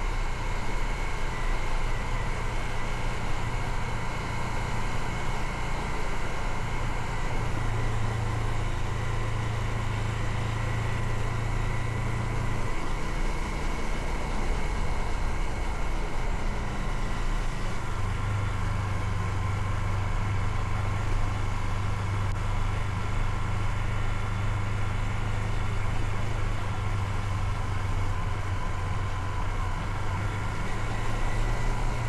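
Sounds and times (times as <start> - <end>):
motorcycle engine humming: 0.0 - 32.0
wind and road noise: 0.0 - 32.0.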